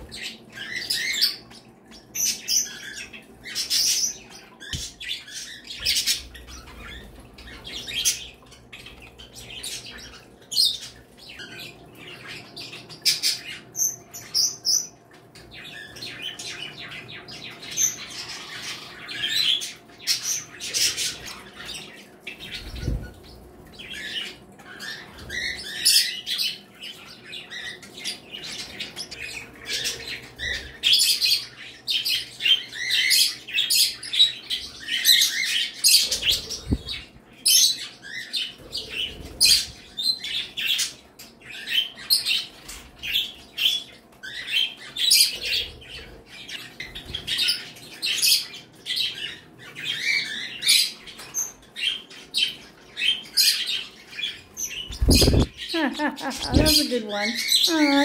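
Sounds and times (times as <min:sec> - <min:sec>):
small birds chirping and chattering: 0:00.0 - 0:58.0.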